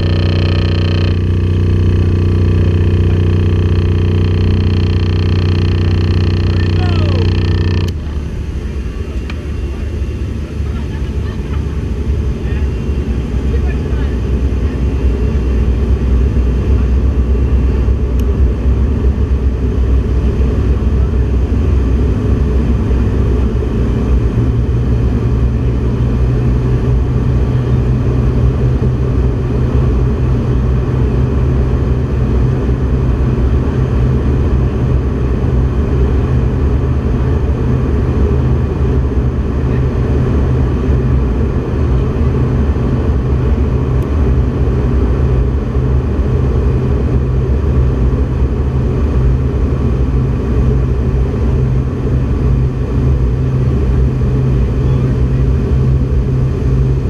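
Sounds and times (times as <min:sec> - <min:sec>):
aircraft engine and airflow rumble: 0:00.0 - 0:57.0
steady low hum: 0:00.0 - 0:57.0.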